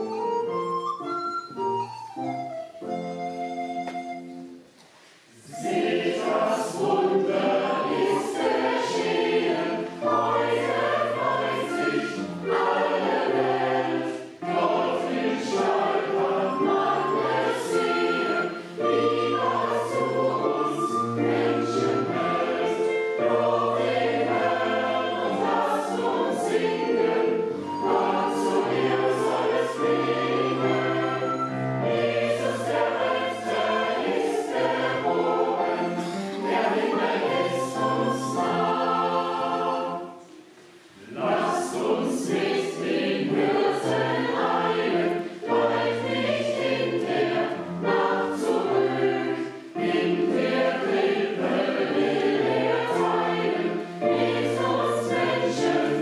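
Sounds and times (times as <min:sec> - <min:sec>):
choir singing in parts: 0:05.3 - 0:56.0.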